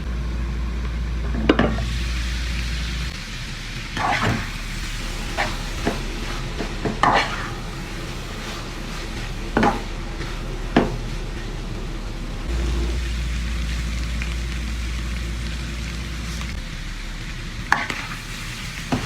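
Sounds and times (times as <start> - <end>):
meat sizzling in a pan: 1.8 - 11.2, 12.5 - 19.0.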